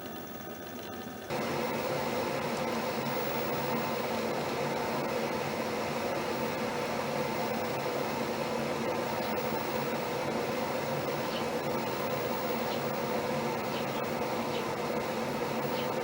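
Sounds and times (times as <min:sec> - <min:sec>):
machine-like hum with hiss: 0:00.0 - 0:16.0.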